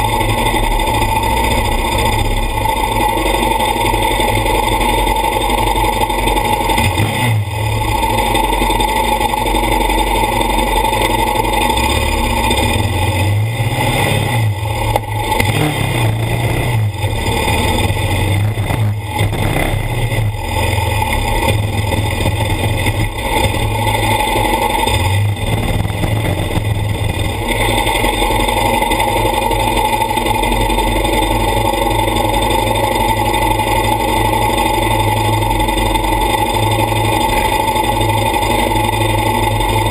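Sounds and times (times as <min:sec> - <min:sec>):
quad engines revving: 0:00.0 - 0:39.9.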